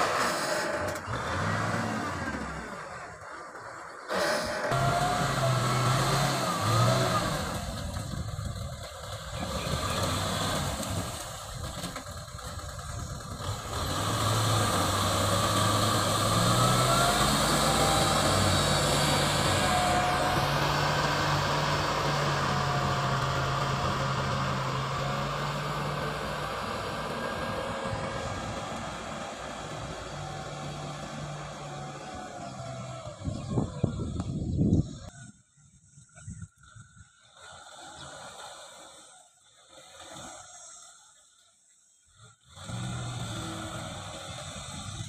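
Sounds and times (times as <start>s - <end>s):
tractor diesel engine running: 0.0s - 35.0s, 42.5s - 45.0s.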